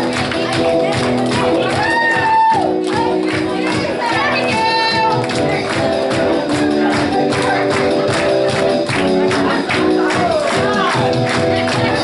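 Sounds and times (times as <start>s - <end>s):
tambourine beat: 0.0s - 12.0s.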